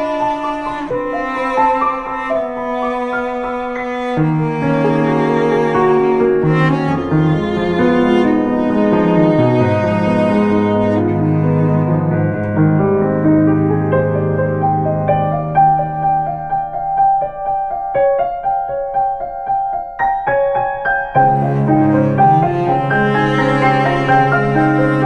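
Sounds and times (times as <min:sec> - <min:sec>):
piano notes: 0:00.0 - 0:25.0.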